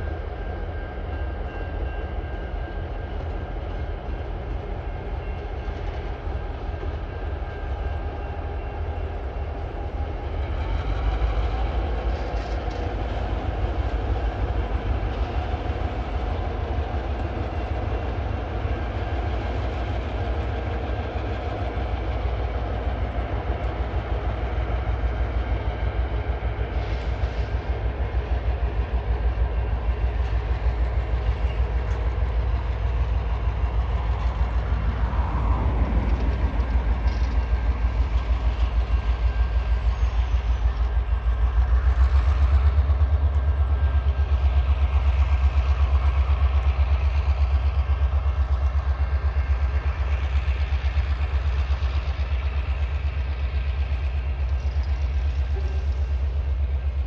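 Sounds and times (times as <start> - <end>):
diesel locomotive engines: 0.0 - 57.0
train wagons rumbling: 0.0 - 57.0
wheels clacking on rails: 0.0 - 57.0.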